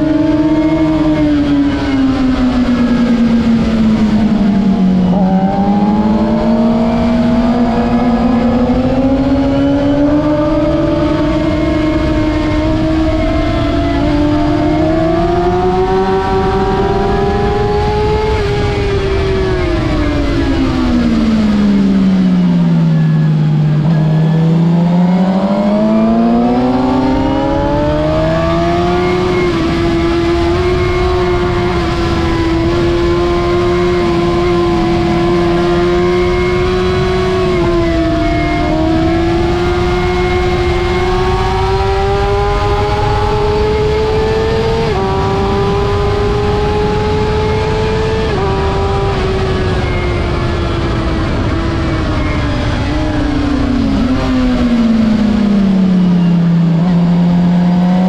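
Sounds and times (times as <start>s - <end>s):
motorcycle engine revving: 0.0s - 58.0s
wind noise: 0.0s - 58.0s.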